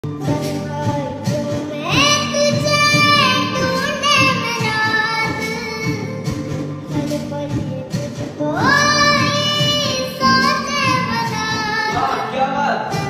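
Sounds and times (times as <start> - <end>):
high-pitched singing voice: 0.1 - 13.0.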